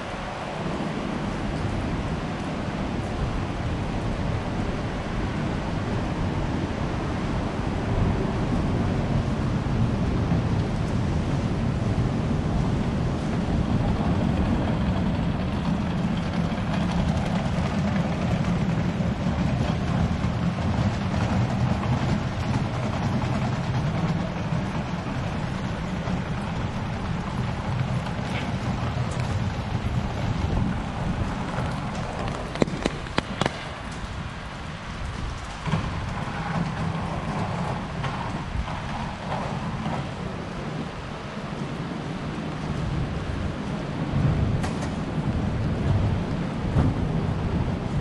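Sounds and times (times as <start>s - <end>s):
low rumble of city traffic: 0.0s - 48.0s
rain on an umbrella: 0.0s - 48.0s.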